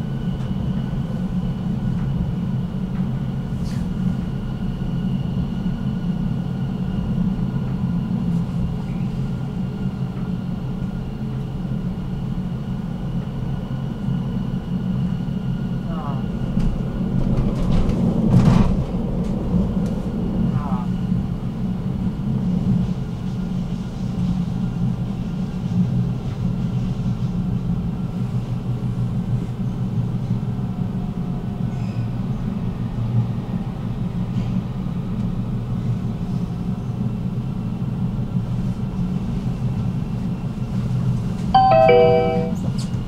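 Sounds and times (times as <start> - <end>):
tram wheels on rails: 0.0 - 41.5.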